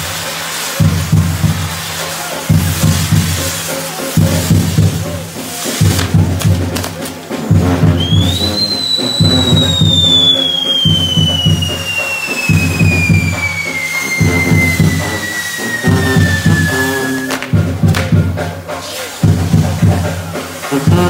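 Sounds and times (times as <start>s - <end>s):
band music with drums: 0.0s - 21.0s
firework whistle: 0.0s - 21.0s.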